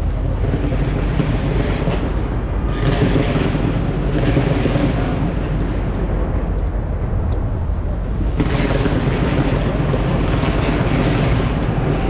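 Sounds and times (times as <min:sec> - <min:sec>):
fireworks bangs rumbling: 0:00.0 - 0:12.0
fireworks crackling: 0:00.0 - 0:12.0.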